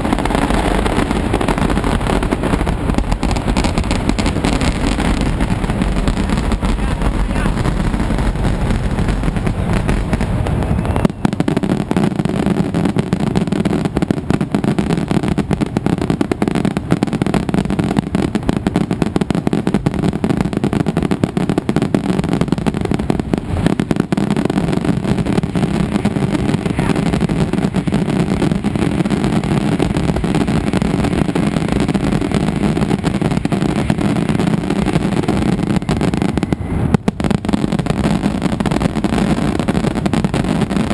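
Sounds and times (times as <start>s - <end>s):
firecrackers going off: 0.0s - 40.9s.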